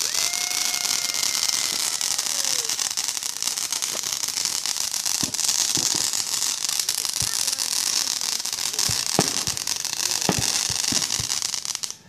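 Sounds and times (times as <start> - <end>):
firework hissing and crackling: 0.0 - 12.0
low pops: 0.0 - 12.0.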